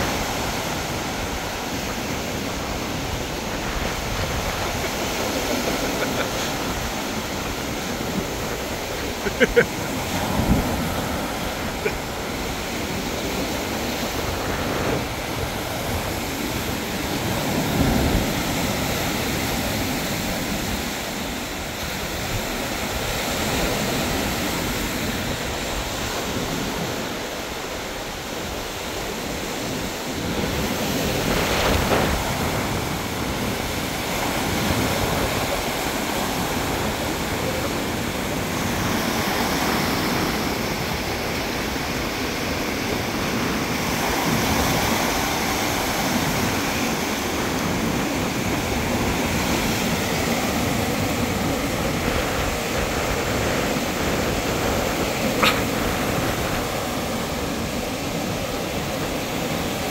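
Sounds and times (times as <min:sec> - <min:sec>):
waves breaking on shore: 0:00.0 - 0:59.9
wind buffeting microphone: 0:00.0 - 0:59.9.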